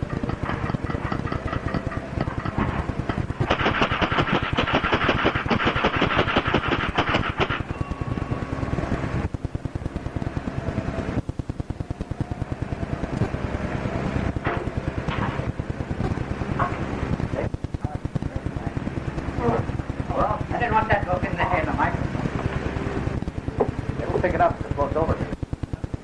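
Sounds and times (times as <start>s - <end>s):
rapid mechanical clattering: 0.0s - 26.0s.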